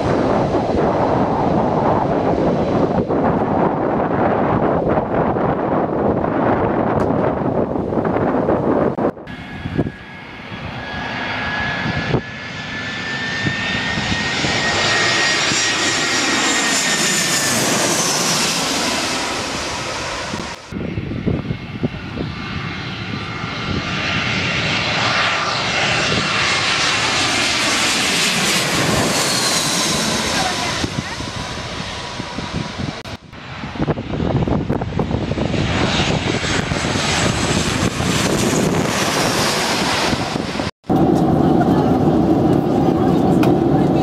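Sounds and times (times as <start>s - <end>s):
jet airliners passing overhead: 0.0s - 44.0s.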